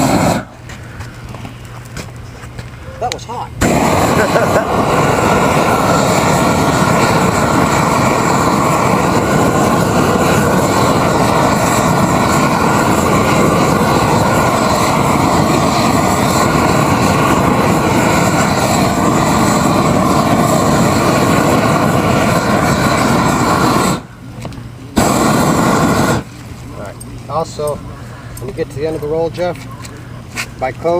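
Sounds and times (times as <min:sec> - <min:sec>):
roofing torch burning: 0:00.0 - 0:30.9.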